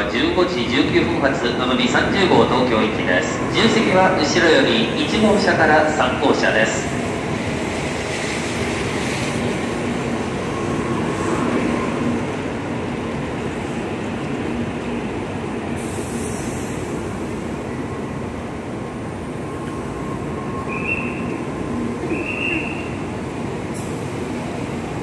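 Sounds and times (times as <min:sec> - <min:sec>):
train rumble with faint whine: 0:00.0 - 0:25.0.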